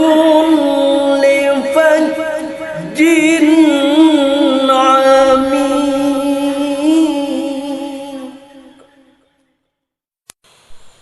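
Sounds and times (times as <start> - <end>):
man chanting recitation: 0.0 - 8.8.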